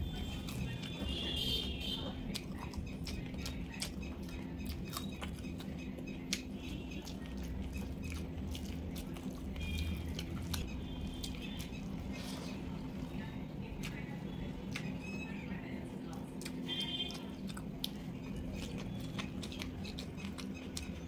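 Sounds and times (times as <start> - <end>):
chewing with wet mouth clicks: 0.0 - 21.0.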